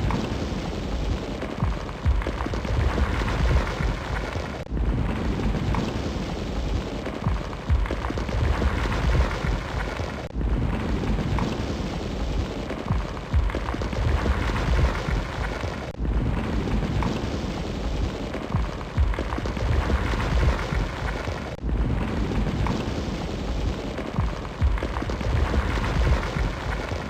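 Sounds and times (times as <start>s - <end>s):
fire crackles and pops: 0.0s - 27.0s.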